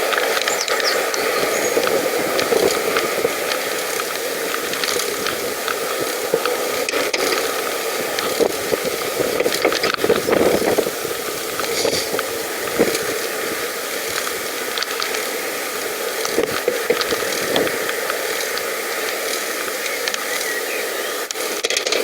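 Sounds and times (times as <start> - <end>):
bicycle clicks and rattles: 0.0 - 20.5, 21.3 - 22.0
bicycle rolling: 0.0 - 22.0.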